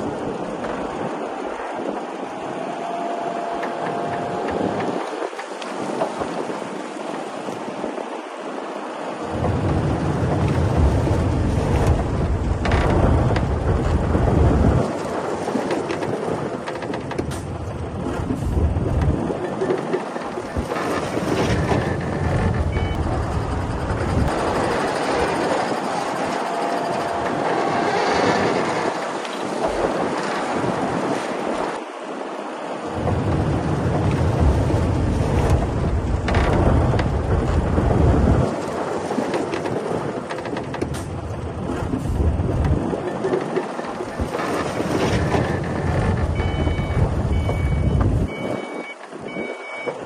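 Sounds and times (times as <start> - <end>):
diesel earthmoving machinery rumbling: 0.0 - 6.4, 8.8 - 50.0.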